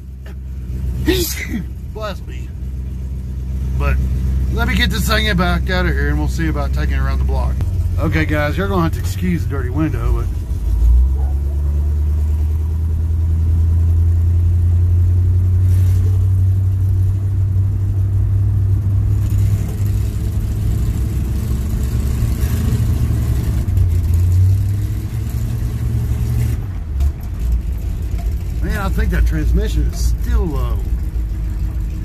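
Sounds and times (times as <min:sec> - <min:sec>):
truck engine rumbling: 0:00.0 - 0:32.0.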